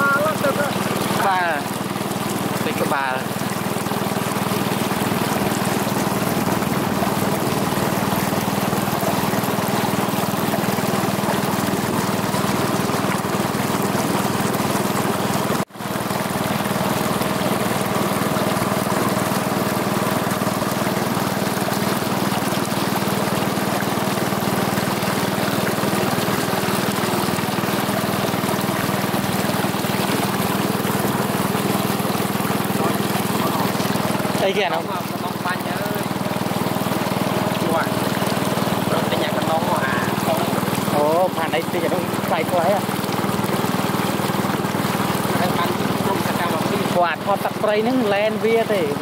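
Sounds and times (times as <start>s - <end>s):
boat motor humming: 0.0s - 49.0s
water washing along hull: 0.0s - 49.0s.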